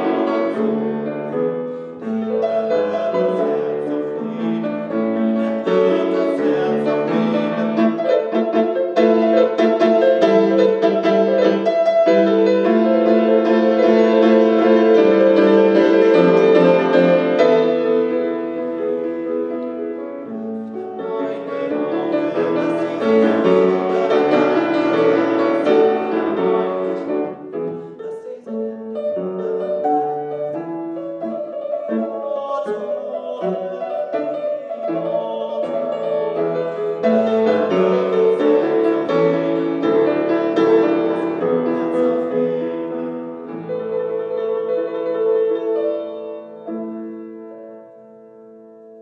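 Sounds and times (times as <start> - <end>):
solo piano playing chords: 0.0 - 49.0.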